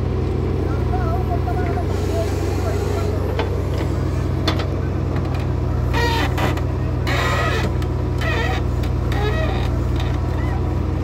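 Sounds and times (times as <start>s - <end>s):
diesel engine running: 0.0s - 11.0s
hydraulic arm creaking: 1.6s - 11.0s.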